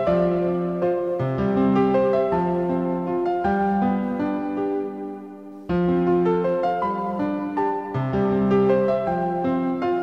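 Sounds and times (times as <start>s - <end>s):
gentle electric piano melody: 0.0s - 10.0s.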